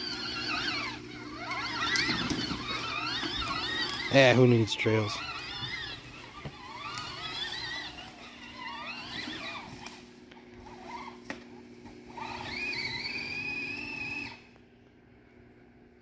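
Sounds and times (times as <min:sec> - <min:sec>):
ride-on toy motor whining: 0:00.0 - 0:14.6.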